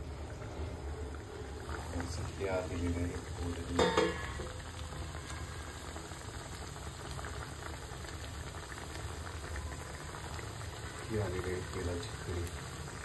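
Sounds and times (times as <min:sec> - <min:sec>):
curry bubbling in a steel pot: 0:00.0 - 0:13.0.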